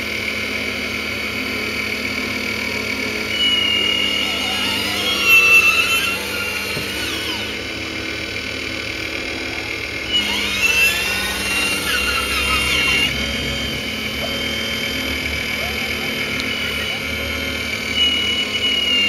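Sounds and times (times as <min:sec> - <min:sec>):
high electric motor whine: 0:00.0 - 0:19.0.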